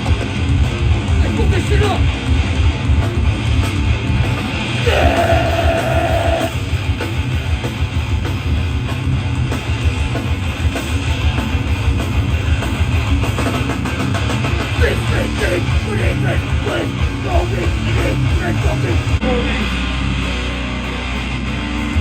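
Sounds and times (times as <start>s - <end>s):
fast pounding drums: 0.0s - 19.2s
bass guitar: 0.0s - 22.0s
distorted electric guitar: 0.0s - 22.0s.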